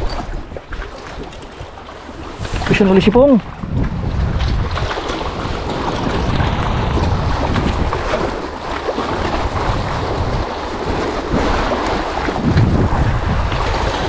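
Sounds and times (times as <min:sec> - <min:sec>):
waves breaking on rocks: 0:00.0 - 0:14.0
wind buffeting microphone: 0:00.0 - 0:14.0.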